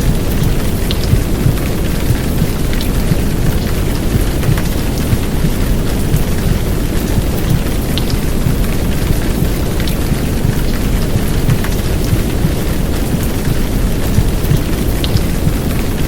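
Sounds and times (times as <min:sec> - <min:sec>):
heavy rain: 0:00.0 - 0:16.0
low whooshing womb sound: 0:00.0 - 0:16.0.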